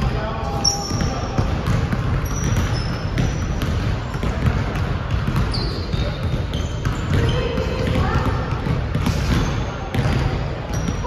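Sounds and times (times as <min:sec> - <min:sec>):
basketballs bouncing on wooden floor: 0:00.0 - 0:11.0.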